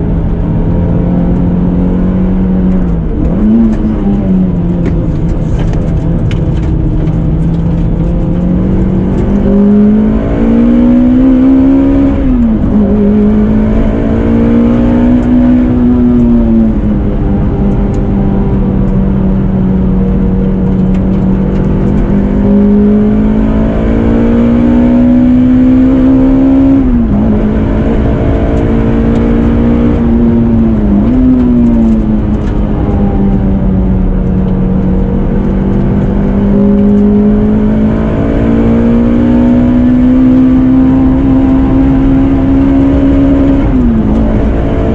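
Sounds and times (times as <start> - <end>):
car engine running under load: 0.0 - 44.9.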